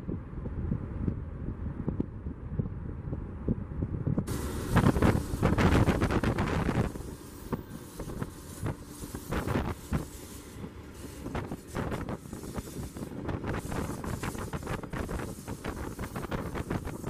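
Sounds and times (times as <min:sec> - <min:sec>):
diesel locomotive rumble: 0:00.0 - 0:17.0
wind buffeting microphone: 0:00.0 - 0:17.0.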